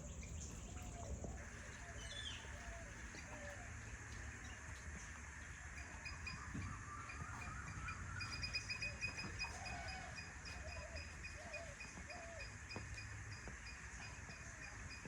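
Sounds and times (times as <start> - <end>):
wavering bird calls: 0.0 - 12.9
birds chirping: 0.0 - 15.0.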